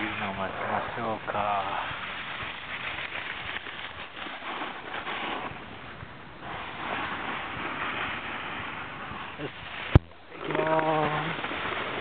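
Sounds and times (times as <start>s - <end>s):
snowboard scraping over snow: 0.0s - 12.0s.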